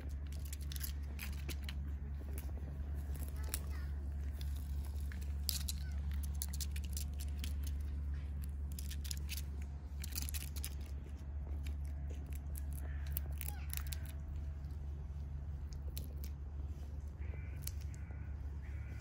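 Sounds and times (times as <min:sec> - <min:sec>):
squirrel claws scratching bark: 0:00.0 - 0:19.0
steady low rumble: 0:00.0 - 0:19.0.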